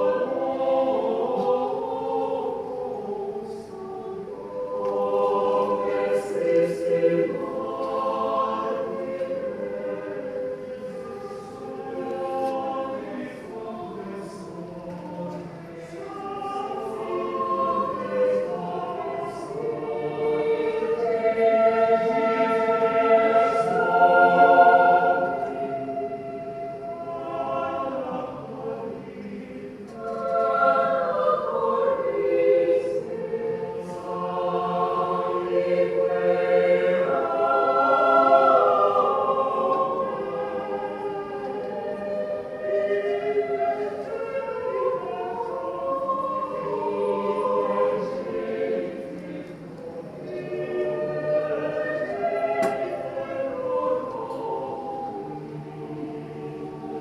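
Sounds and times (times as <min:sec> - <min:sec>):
choir singing held chords: 0:00.0 - 0:57.0.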